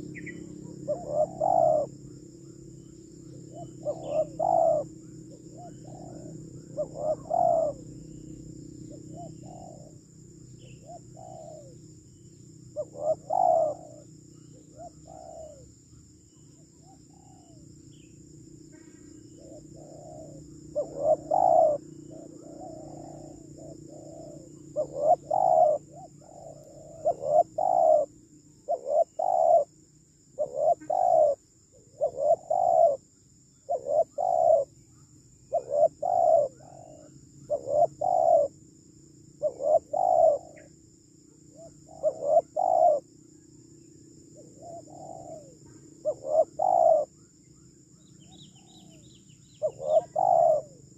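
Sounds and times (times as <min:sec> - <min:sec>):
dove cooing: 0:00.0 - 0:12.0, 0:12.7 - 0:15.8, 0:16.5 - 0:34.9, 0:35.5 - 0:38.6, 0:39.3 - 0:43.2, 0:44.1 - 0:47.2, 0:48.2 - 0:50.9
high insect trill: 0:00.0 - 0:50.9.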